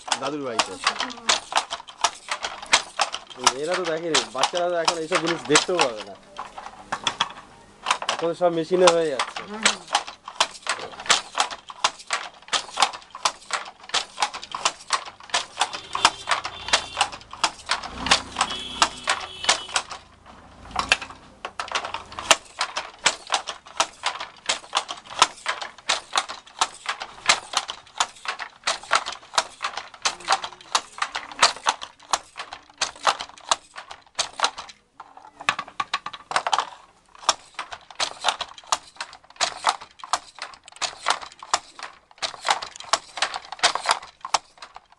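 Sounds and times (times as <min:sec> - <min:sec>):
wooden handloom clacking: 0:00.0 - 0:44.9.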